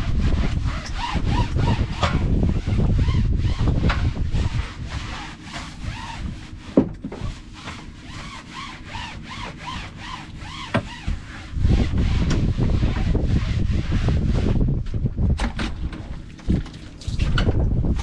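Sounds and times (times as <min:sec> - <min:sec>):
brush scrubbing deck: 0:00.0 - 0:15.2.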